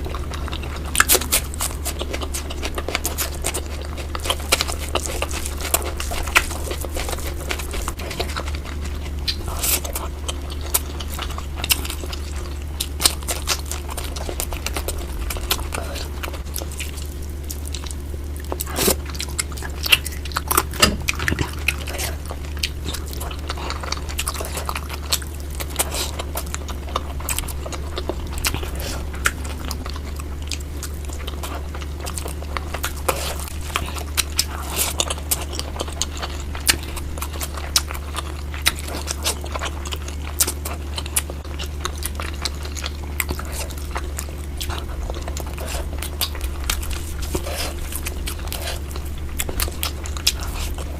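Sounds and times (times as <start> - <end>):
biting chewing and smacking: 0.0 - 50.9
steady low hum: 0.0 - 50.9.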